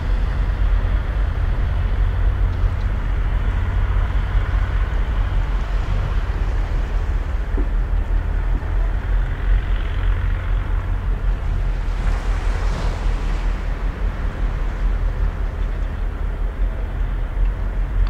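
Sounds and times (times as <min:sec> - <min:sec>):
sea water washing on shore: 0:00.0 - 0:18.0
wind on microphone: 0:00.0 - 0:18.0.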